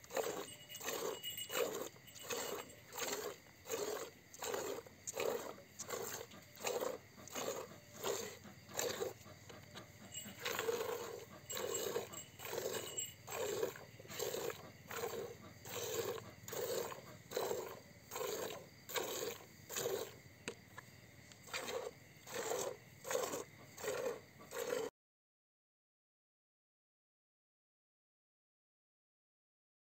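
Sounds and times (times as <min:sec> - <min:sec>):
milk squirting into plastic bucket: 0:00.0 - 0:20.8, 0:21.4 - 0:24.9.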